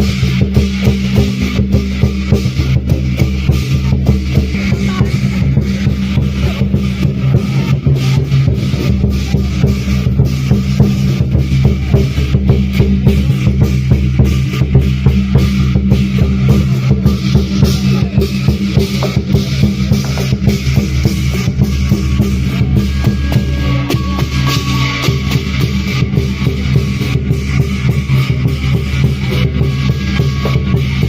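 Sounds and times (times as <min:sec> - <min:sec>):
cymbals crashing: 0:00.0 - 0:31.0
drum beating: 0:00.0 - 0:31.0.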